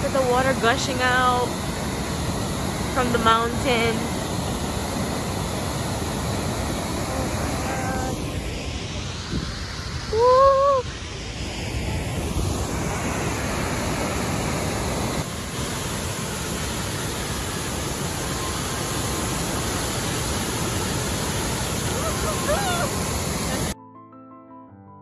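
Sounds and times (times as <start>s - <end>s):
waterfall rushing: 0.0s - 9.3s, 11.7s - 23.8s
wind on microphone: 0.0s - 23.8s.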